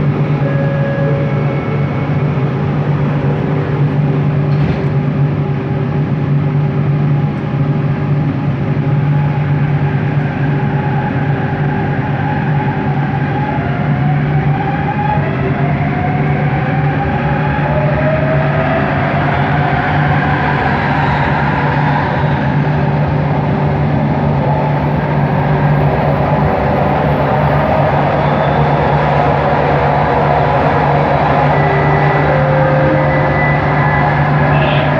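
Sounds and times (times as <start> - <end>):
metro train motor whine: 0.0 - 34.9
train rolling noise and hum: 0.0 - 34.9.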